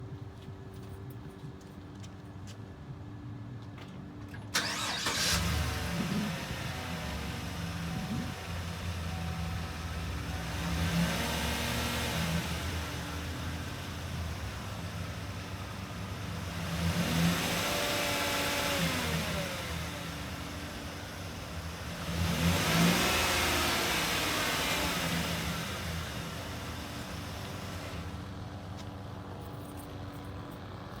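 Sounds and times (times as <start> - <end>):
van engine idling and revving: 4.6 - 31.0.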